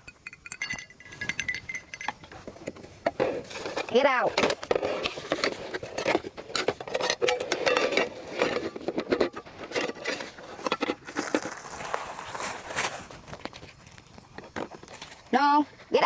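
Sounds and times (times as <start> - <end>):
scraping and rustling: 0.8 - 16.0.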